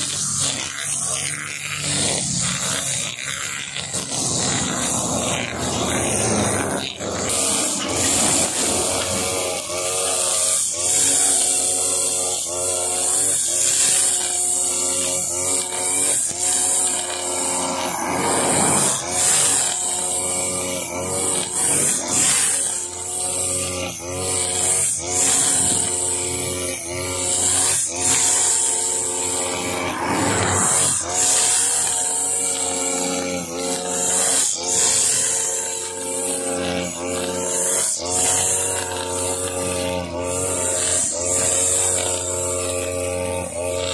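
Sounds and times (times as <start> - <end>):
brush cutter engine running: 0.0 - 43.9
nylon line cutting grass: 0.0 - 43.9.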